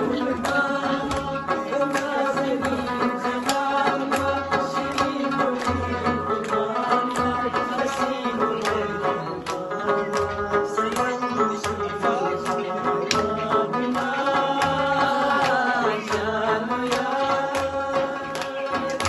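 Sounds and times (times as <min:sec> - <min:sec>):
hands clapping a beat: 0:00.0 - 0:19.0
man singing: 0:00.0 - 0:19.0
plucked lute: 0:00.0 - 0:19.0.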